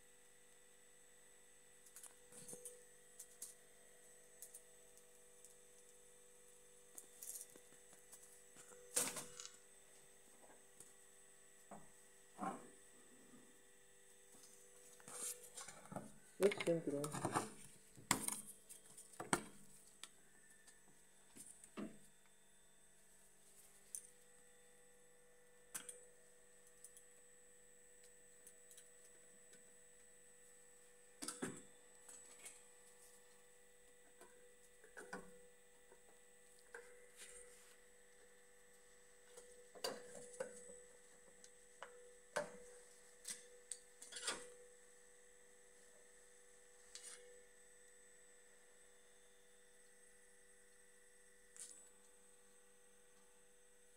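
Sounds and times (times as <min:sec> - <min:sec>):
faint electrical hum: 0:00.0 - 0:53.9.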